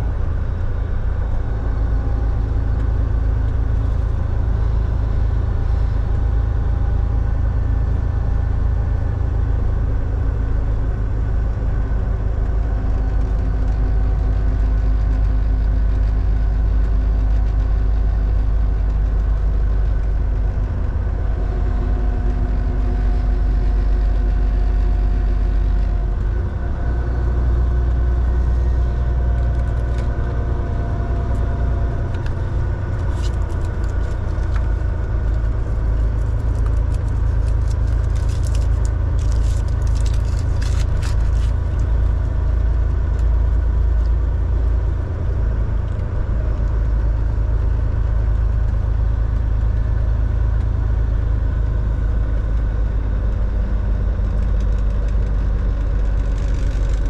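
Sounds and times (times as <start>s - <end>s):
truck diesel engine and road noise: 0.0s - 57.0s.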